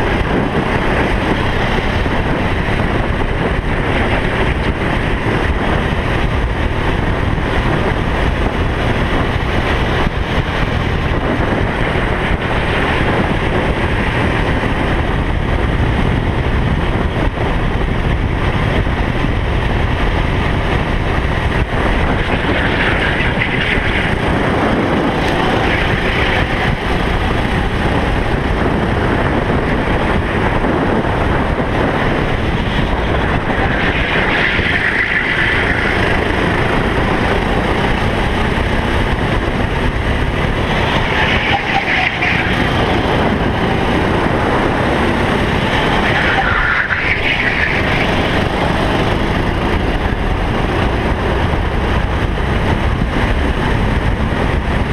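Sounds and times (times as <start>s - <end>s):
kart engine running hard: 0.0s - 54.9s.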